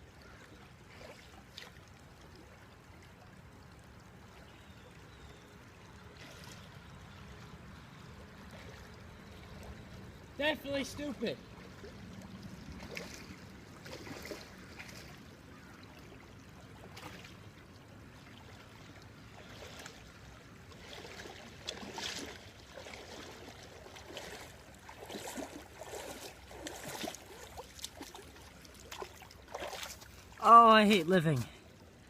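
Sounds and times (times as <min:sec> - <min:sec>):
shallow creek water running: 0:00.0 - 0:32.0
splashes and rustles: 0:00.2 - 0:03.6, 0:05.8 - 0:32.0.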